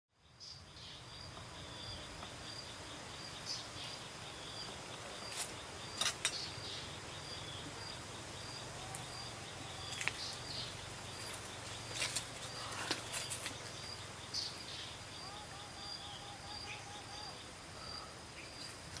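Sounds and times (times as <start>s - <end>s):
bird chirps: 0.3s - 18.8s
high insect trill: 1.0s - 19.0s.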